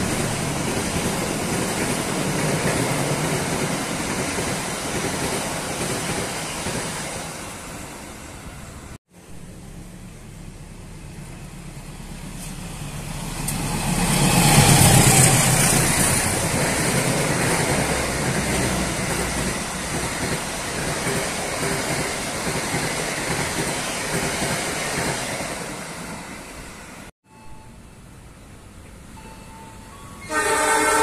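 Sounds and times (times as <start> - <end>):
train passing with loud rumble: 0.0 - 27.1.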